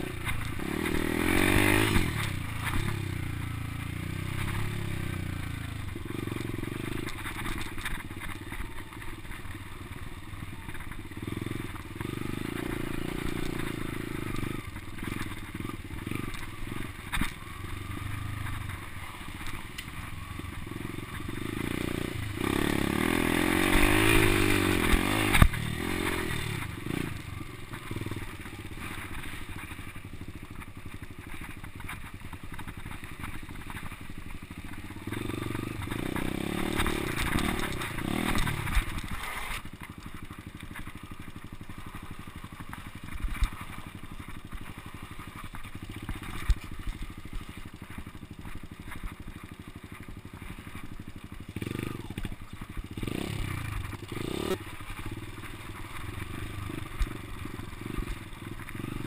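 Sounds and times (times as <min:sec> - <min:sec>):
dirt bike engine revving: 0:00.0 - 0:09.4, 0:10.5 - 0:29.8, 0:32.6 - 0:39.6, 0:45.4 - 0:59.0
bike rattling over ground: 0:00.0 - 0:59.0.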